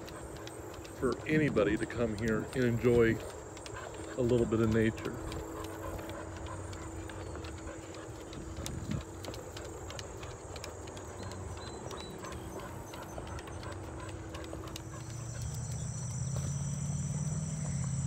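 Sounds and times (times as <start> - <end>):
footsteps on wooden planks: 0.0 - 18.0.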